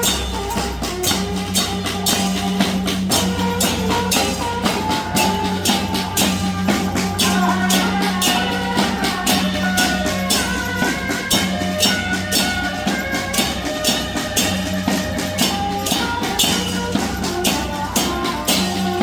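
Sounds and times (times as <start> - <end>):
bright cymbal-like hits: 0.0 - 19.0
procession music: 0.0 - 19.0
steady drum beat: 0.0 - 19.0.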